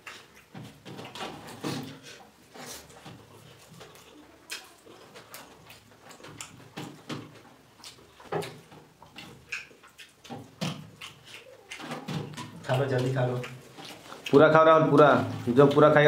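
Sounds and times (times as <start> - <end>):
chewing and mouth sounds: 0.0 - 15.9.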